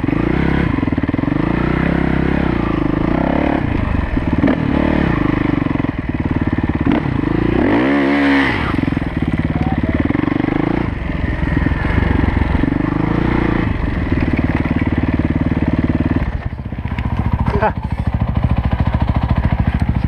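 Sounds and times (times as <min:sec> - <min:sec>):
dirt bike engine revving: 0:00.0 - 0:19.8.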